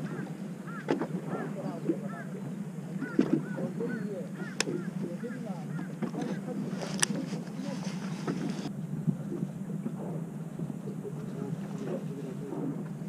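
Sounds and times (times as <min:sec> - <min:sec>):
bird calls: 0:00.0 - 0:13.0
boat engine humming: 0:00.0 - 0:13.0.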